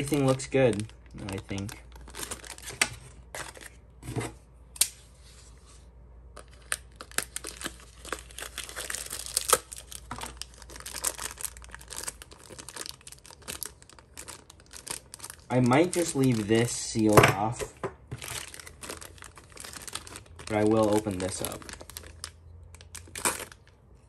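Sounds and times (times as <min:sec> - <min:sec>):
plastic bags crinkling: 0:00.0 - 0:03.8, 0:06.4 - 0:17.2, 0:18.1 - 0:24.0.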